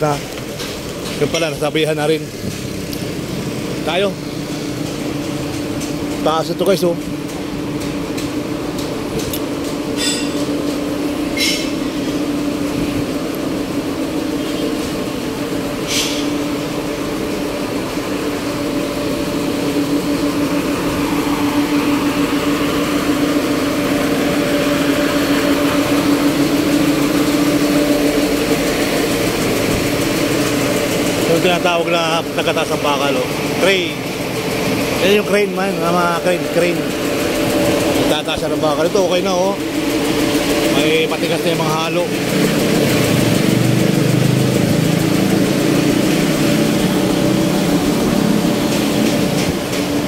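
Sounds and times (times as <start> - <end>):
engine humming: 0.0 - 50.0
mechanical rumble: 0.0 - 50.0.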